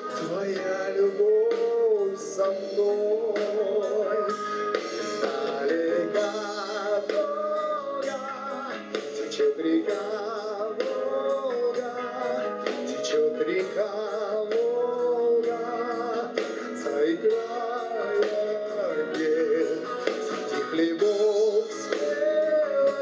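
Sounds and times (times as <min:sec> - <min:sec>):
ballad singing: 0:00.0 - 0:23.0
regular drumbeat: 0:00.0 - 0:23.0.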